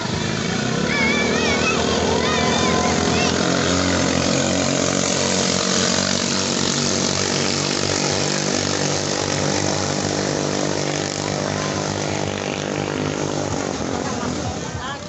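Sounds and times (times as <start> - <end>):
boat engines high-revving buzz: 0.0 - 15.0.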